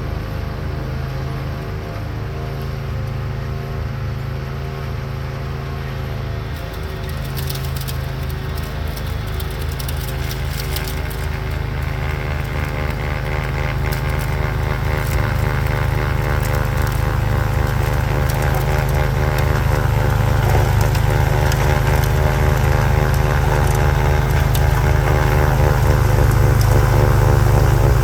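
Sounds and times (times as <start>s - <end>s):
lawn tractor engine running: 0.0s - 28.0s.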